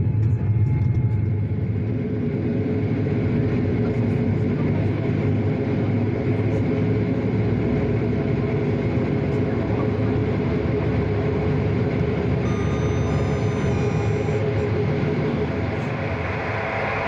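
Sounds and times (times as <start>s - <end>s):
train running: 0.0s - 17.0s.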